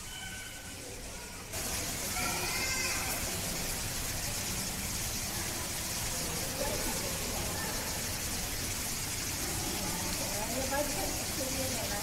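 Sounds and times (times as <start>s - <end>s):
faint human voices: 0.0s - 12.0s
steady outdoor hiss: 0.0s - 12.0s.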